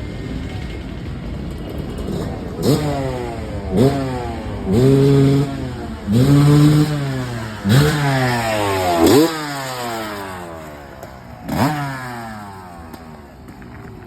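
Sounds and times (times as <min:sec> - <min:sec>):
motocross engine revving: 0:01.4 - 0:14.0.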